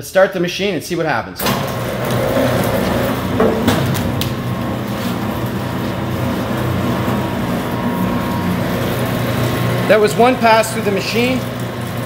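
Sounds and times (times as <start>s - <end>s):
cable stripping machine humming: 1.4s - 12.0s.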